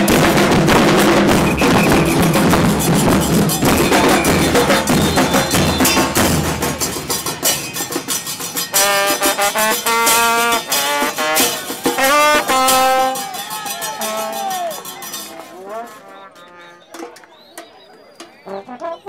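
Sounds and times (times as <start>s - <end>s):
brass instrument playing: 0.0s - 7.2s, 8.4s - 17.2s, 18.4s - 19.0s
drums and cymbals beating: 0.0s - 19.0s.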